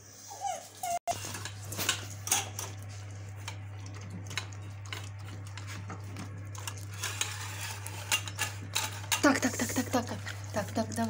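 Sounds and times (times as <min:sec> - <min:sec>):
dogs licking metal bowls: 0:01.1 - 0:11.0
steady low hum: 0:01.1 - 0:11.0.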